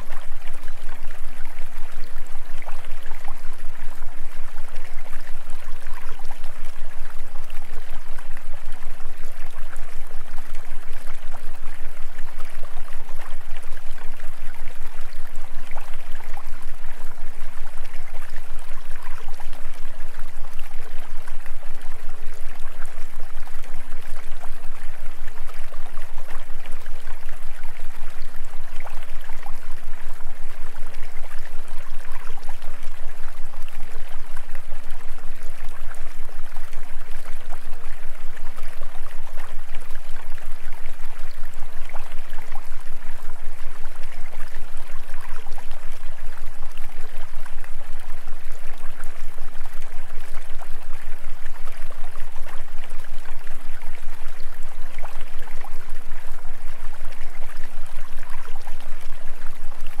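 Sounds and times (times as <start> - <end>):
running water: 0.0 - 60.0.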